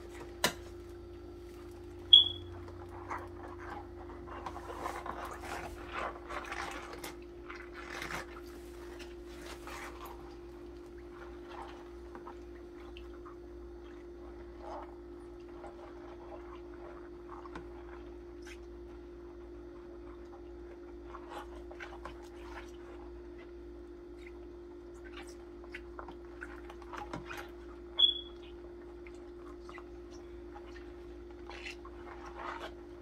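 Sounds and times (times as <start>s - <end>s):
wet brushing and sloshing: 1.4s - 33.0s.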